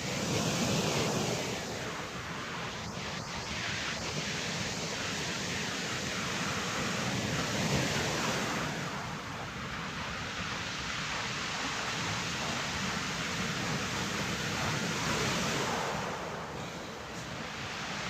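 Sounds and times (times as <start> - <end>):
sea surf rushing: 0.0 - 18.0
wind on microphone: 0.0 - 18.0.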